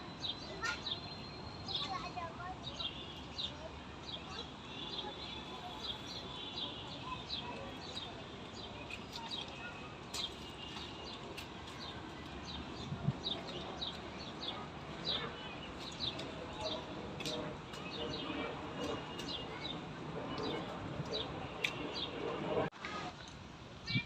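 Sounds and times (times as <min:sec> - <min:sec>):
steady outdoor hiss: 0:00.0 - 0:24.0
small birds chirping: 0:00.1 - 0:22.4.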